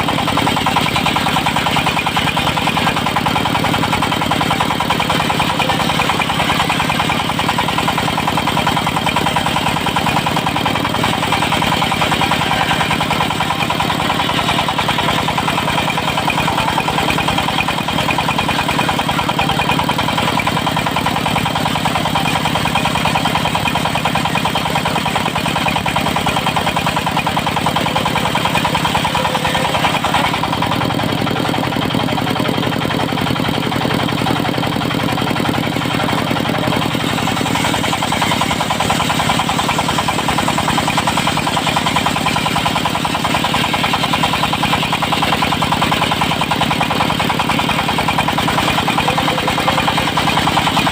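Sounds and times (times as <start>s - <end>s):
diesel engine throbbing: 0.0s - 50.9s.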